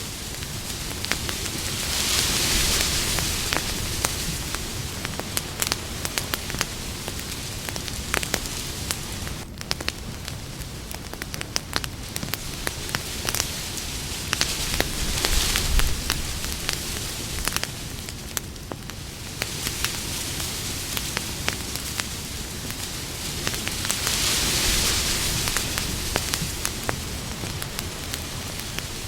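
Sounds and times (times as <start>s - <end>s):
campfire crackling: 0.0s - 29.0s
hiss of flames: 0.0s - 29.0s.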